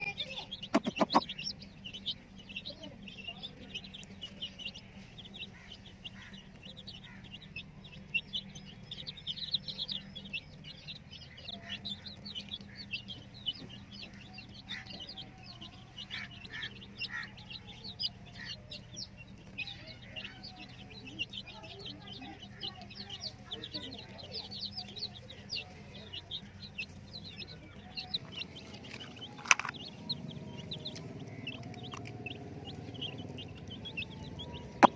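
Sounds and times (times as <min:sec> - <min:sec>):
chicks peeping: 0:00.0 - 0:34.9
faint low hum: 0:00.0 - 0:34.9.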